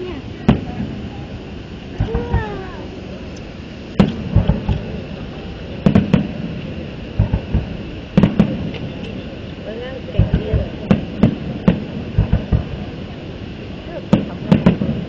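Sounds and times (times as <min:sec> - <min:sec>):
firework booms: 0:00.0 - 0:15.0
firework cracks: 0:00.0 - 0:15.0.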